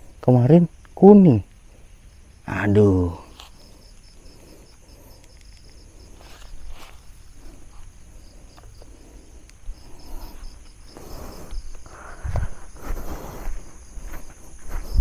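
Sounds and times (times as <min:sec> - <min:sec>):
crickets chirping: 0:00.0 - 0:15.0
insect pulsing chirp: 0:00.0 - 0:15.0.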